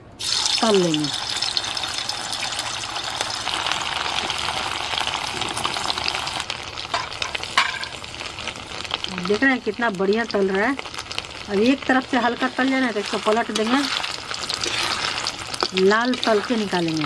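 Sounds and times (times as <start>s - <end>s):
food frying in hot oil: 0.2s - 17.0s.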